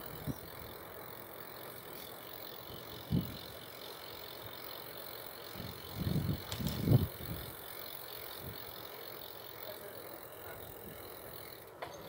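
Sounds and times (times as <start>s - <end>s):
bicycle rattling knocks: 0.0s - 12.0s
bicycle tyres and wind hiss: 0.0s - 12.0s.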